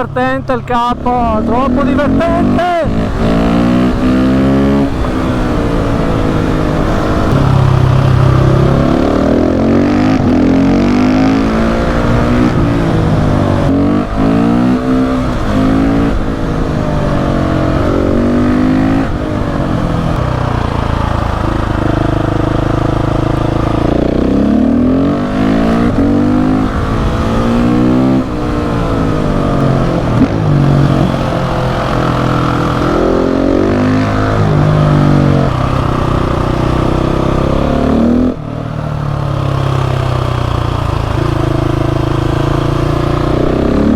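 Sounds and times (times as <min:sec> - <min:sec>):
motorcycle engine accelerating hard: 0:00.0 - 0:43.9.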